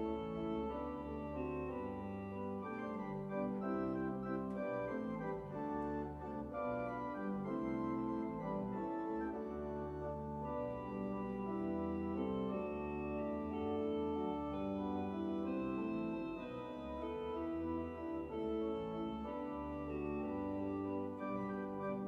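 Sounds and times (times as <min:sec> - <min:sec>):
church organ chords: 0:00.0 - 0:22.0.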